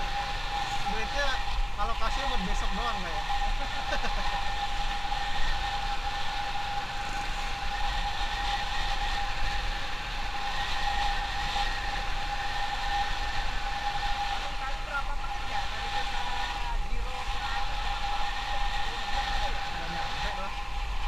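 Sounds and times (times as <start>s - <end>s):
motorcycle engine whine: 0.0s - 21.0s.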